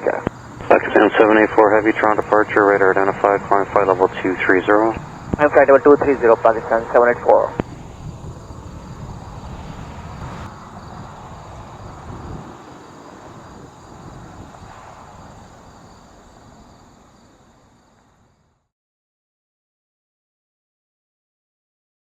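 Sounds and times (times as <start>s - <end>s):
jet engines rumbling: 0.0s - 18.5s
crickets chirping: 0.0s - 18.6s.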